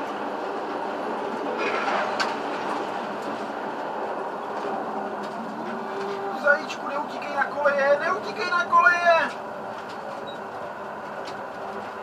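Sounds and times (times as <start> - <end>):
tram running noise: 0.0 - 12.0.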